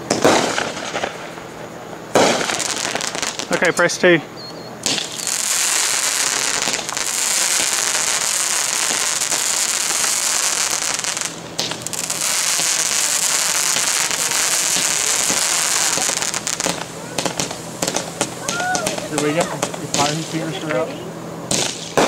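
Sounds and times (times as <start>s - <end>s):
fireworks spraying sparks hiss: 0.0s - 4.2s, 4.8s - 22.0s.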